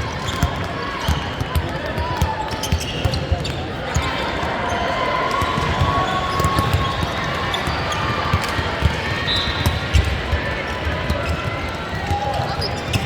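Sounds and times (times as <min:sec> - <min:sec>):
sports hall din: 0:00.0 - 0:13.0.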